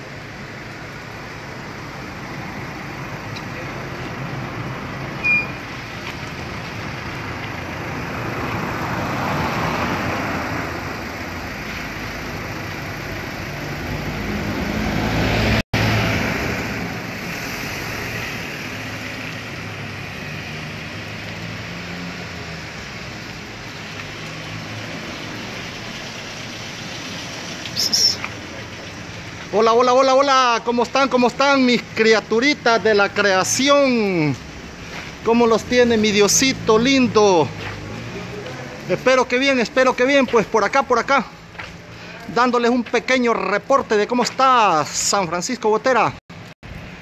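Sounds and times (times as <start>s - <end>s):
traffic noise: 0.0s - 47.0s
vehicles passing: 0.0s - 47.0s.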